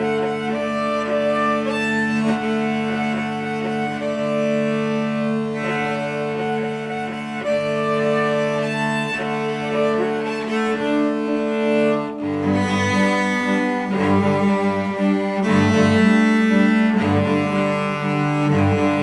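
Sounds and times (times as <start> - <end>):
string ensemble held chords: 0.0 - 19.0.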